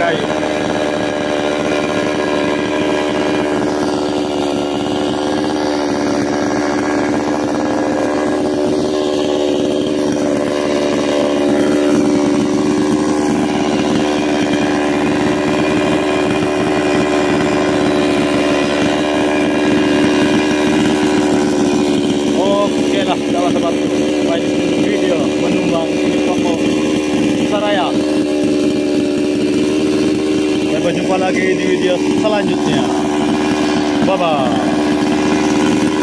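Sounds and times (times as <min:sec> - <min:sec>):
chainsaw running steadily: 0:00.0 - 0:36.0.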